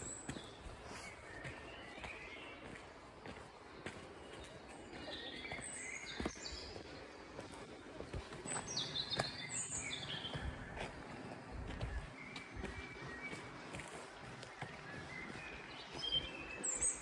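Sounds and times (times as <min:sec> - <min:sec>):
footsteps on dirt path: 0:00.0 - 0:17.0
songbirds chirping and whistling: 0:00.0 - 0:17.0.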